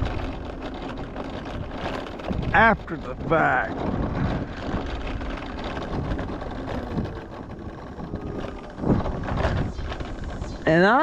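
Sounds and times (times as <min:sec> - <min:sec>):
vehicle engine and road noise: 0:00.0 - 0:11.0
wind buffeting microphone: 0:00.0 - 0:11.0.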